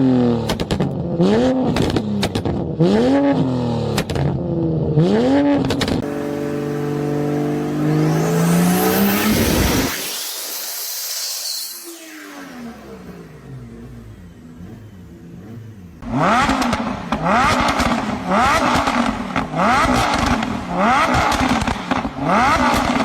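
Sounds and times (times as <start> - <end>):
engine revving with sharp pops: 0.0 - 11.9, 13.0 - 23.0.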